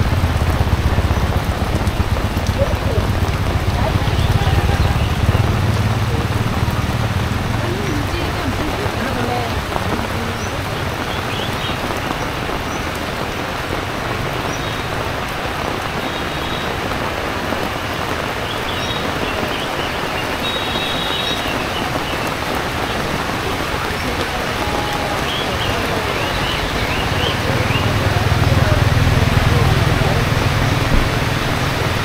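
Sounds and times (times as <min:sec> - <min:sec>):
heavy rain hissing: 0:00.0 - 0:32.0.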